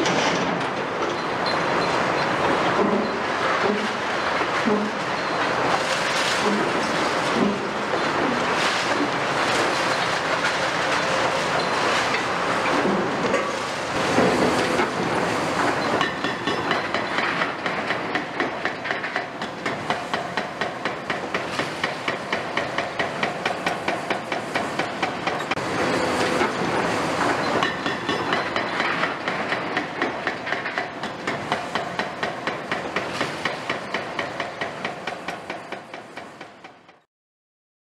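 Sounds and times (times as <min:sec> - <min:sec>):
excavator diesel engines and hydraulics: 0:00.0 - 0:37.0.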